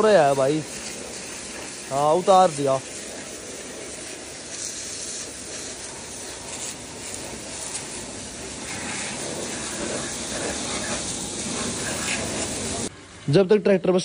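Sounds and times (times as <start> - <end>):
pressure washer jet hissing: 0.0 - 12.9.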